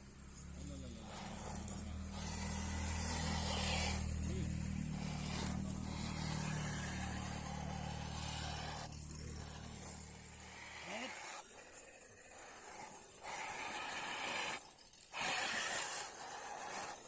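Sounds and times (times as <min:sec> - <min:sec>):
motor humming: 0:00.0 - 0:17.0
hiss: 0:00.3 - 0:17.0.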